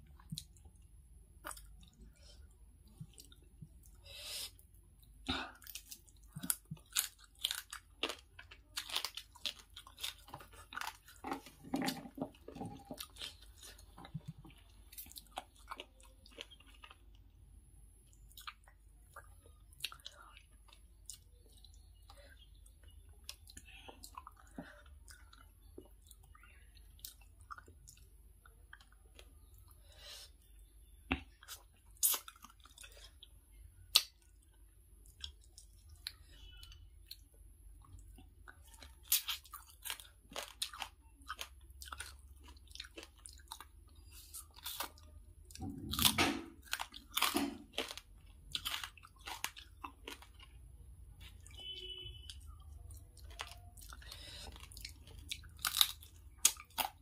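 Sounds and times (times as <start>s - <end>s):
chewing and crunching: 0.0s - 4.0s, 4.6s - 57.0s.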